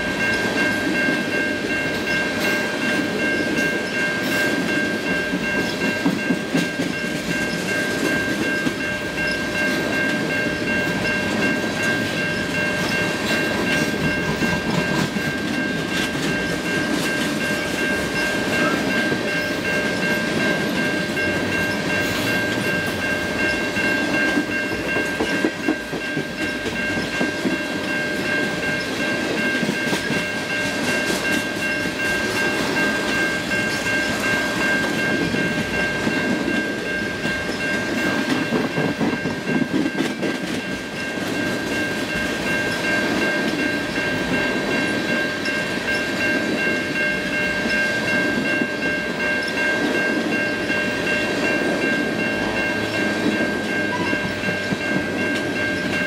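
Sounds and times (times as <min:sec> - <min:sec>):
train wheels rumbling over rails: 0:00.0 - 0:56.0.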